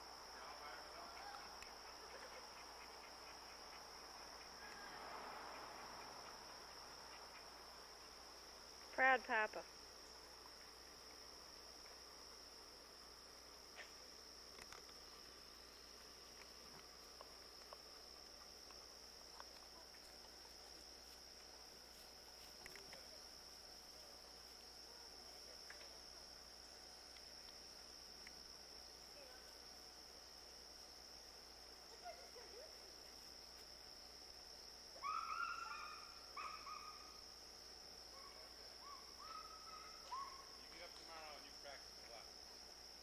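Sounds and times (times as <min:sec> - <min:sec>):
insects trilling: 0:00.0 - 0:43.0.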